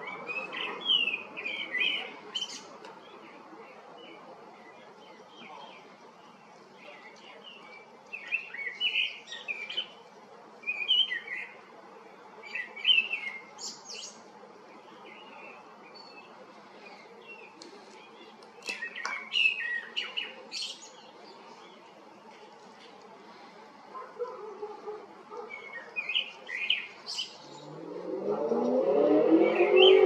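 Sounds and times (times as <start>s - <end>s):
birds chirping: 0.0s - 30.0s
faint background noise: 0.0s - 30.0s.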